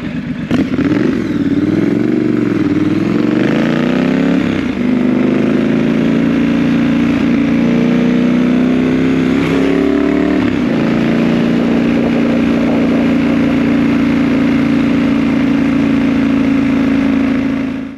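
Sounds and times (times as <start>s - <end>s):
engine running at high revs: 0.0s - 17.9s.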